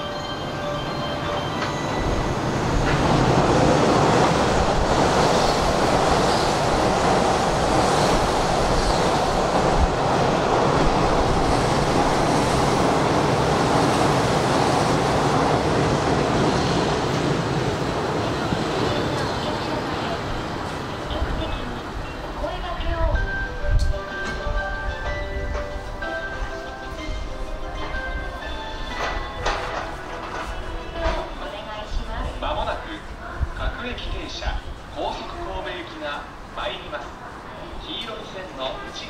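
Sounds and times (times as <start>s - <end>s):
electric train running by: 0.0s - 39.0s.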